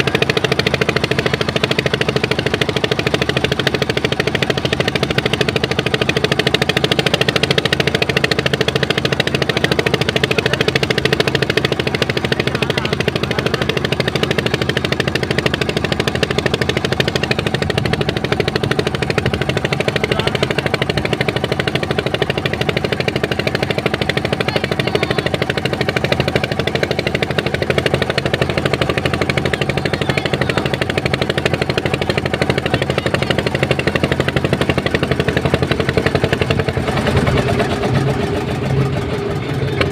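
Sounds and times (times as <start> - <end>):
boat diesel engine chugging: 0.0 - 39.9.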